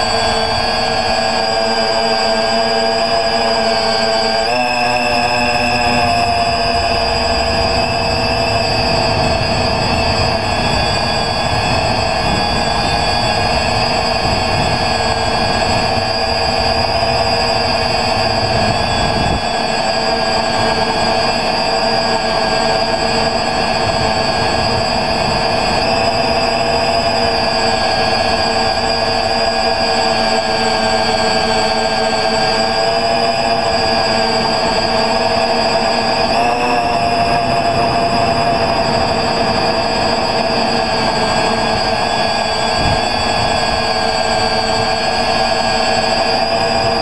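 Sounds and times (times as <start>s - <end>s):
drone propellers whining: 0.0s - 47.0s.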